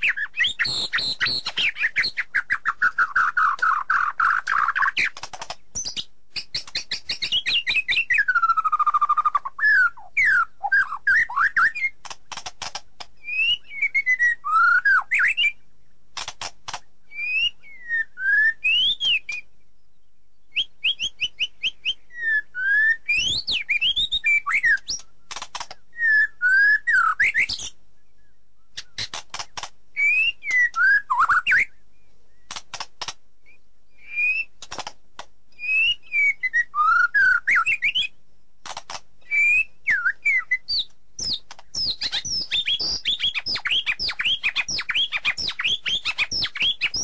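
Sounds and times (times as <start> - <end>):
songbird singing: 0.0 - 47.0.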